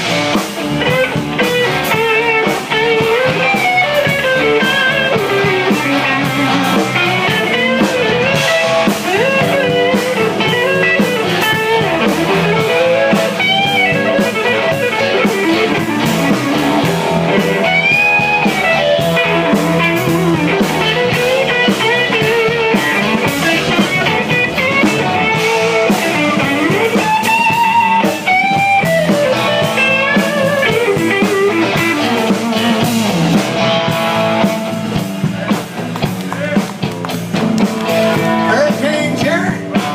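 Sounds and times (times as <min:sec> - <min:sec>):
bass: 0:00.0 - 0:39.9
drums: 0:00.0 - 0:39.9
electric guitar soloing: 0:00.0 - 0:39.9.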